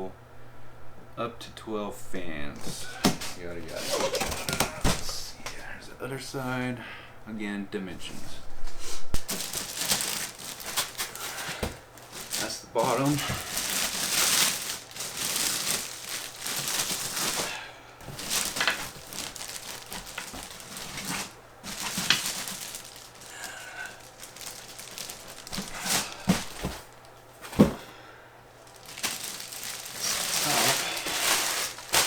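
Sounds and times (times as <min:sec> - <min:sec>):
packaging crinkling and rustling: 0:02.6 - 0:05.8, 0:08.0 - 0:28.0, 0:28.6 - 0:32.0.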